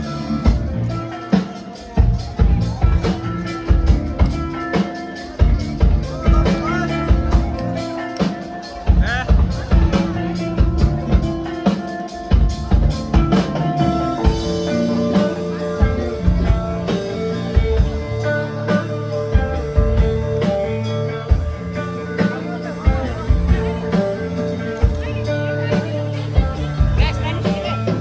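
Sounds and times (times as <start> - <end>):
bass guitar held notes: 0.0 - 1.3, 1.9 - 11.6, 12.3 - 28.0
drum kit steady beat: 0.0 - 28.0
electric guitar held notes: 0.0 - 28.0.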